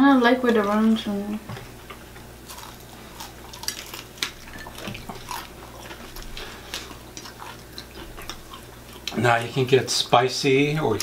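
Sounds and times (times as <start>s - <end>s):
chewing crispy fried chicken: 0.5s - 11.0s.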